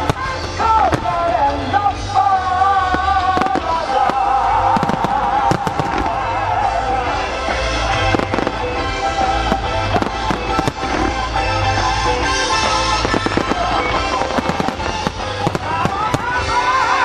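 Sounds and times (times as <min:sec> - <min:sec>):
fireworks bangs: 0:00.0 - 0:17.0
music: 0:00.0 - 0:17.0.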